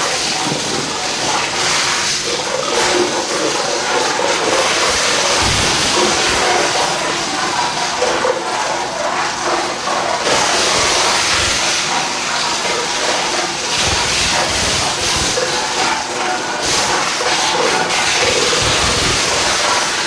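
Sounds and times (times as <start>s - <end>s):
shredder crushing cans and plastic: 0.0s - 20.0s.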